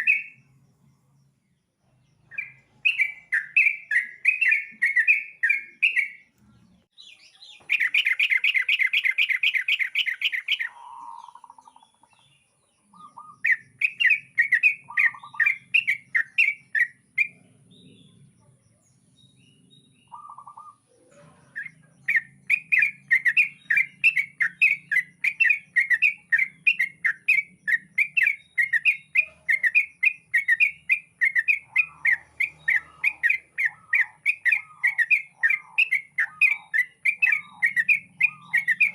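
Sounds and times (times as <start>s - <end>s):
bulbul chirping: 0.0s - 17.4s, 19.9s - 38.9s.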